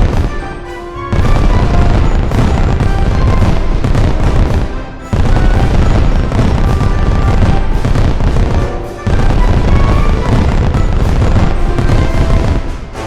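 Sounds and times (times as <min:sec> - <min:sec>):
background music: 0:00.0 - 0:13.0
fireworks booming and crackling: 0:00.0 - 0:13.0.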